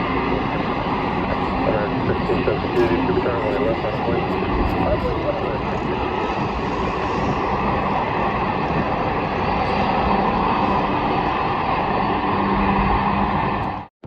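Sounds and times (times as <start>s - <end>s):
jet engine roar: 0.0s - 13.9s.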